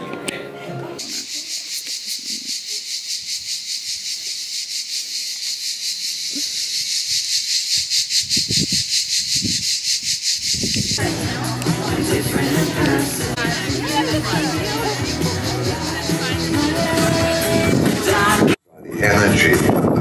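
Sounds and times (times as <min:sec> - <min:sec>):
cicadas buzzing: 0:01.0 - 0:17.8.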